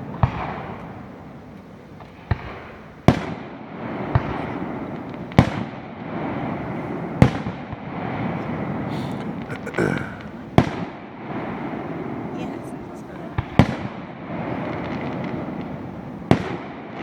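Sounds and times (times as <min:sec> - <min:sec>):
rumble of distant fireworks: 0:00.0 - 0:17.0.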